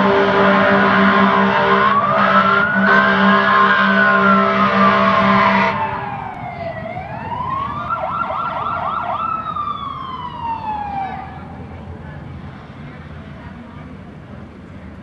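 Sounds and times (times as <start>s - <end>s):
emergency vehicle sirens wailing: 0.0s - 14.7s.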